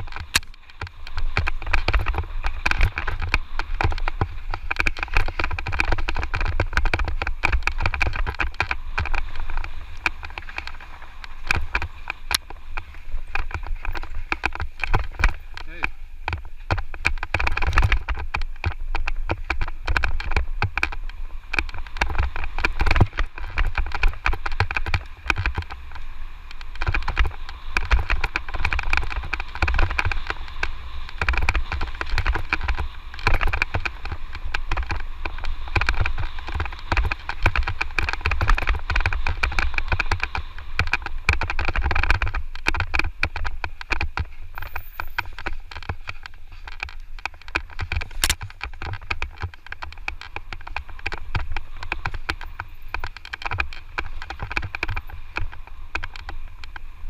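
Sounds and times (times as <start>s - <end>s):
bike rattling over bumps: 0.0s - 57.0s
tyres on dirt: 0.0s - 57.0s
wind rumbling on microphone: 0.0s - 57.0s.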